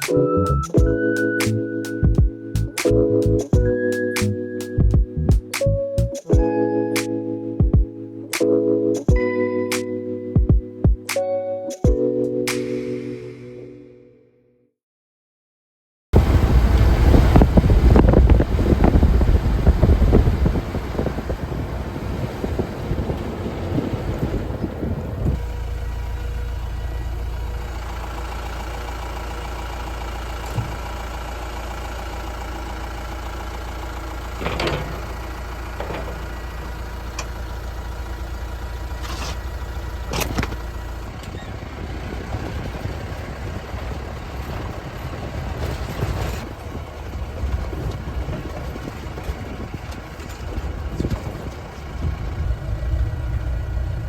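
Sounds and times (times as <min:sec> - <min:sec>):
engine running: 0:00.0 - 0:11.0, 0:16.2 - 0:54.0.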